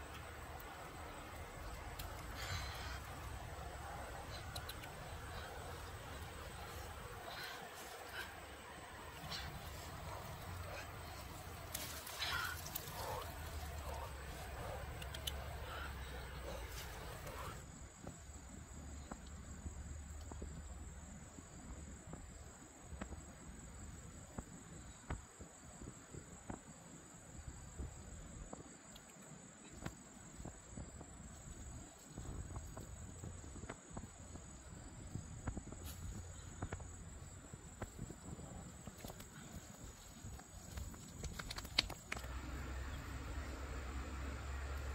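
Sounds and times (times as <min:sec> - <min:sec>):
insects chirring: 0:00.0 - 0:44.9.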